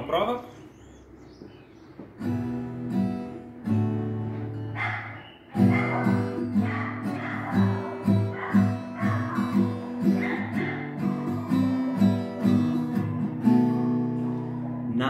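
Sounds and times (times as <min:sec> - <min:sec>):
acoustic guitar strumming: 0:01.8 - 0:15.0.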